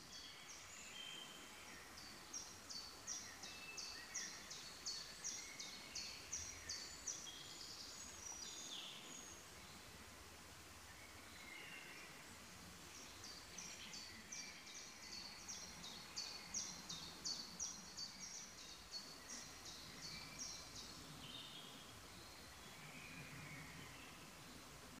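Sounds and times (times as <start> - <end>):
songbird singing repeated notes: 0.0 - 10.0, 12.9 - 24.8
faint outdoor background noise: 0.0 - 25.0.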